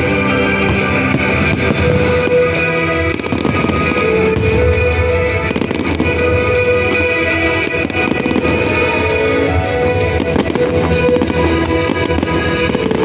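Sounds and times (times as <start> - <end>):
fireworks popping and crackling: 0.0 - 13.0
loud guitar music: 0.0 - 13.0.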